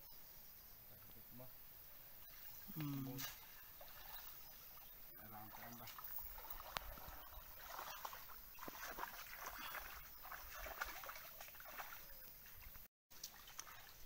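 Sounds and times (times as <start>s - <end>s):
shallow water splashing: 2.2s - 14.0s
water dripping: 2.2s - 14.0s.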